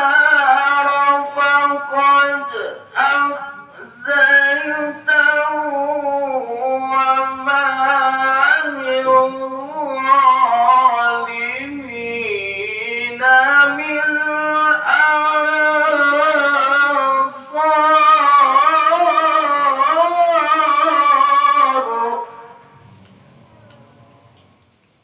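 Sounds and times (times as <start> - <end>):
man reciting melodically: 0.0 - 24.4.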